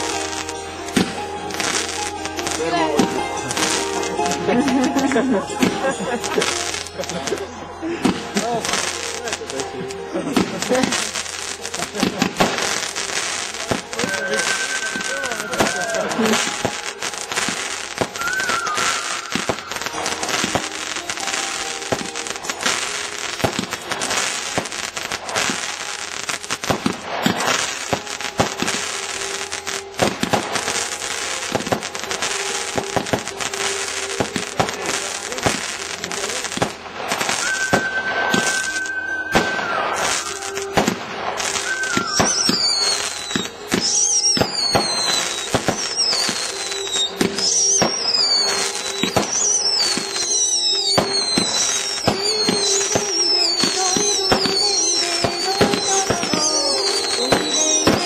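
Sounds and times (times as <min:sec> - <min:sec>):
fireworks crackling: 0:00.0 - 0:58.0
high falling firework whistles: 0:10.4 - 0:36.5, 0:37.1 - 0:58.0.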